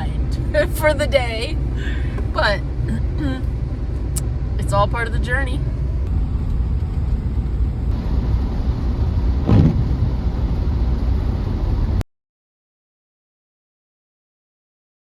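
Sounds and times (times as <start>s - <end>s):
van road and engine rumble: 0.0s - 12.0s.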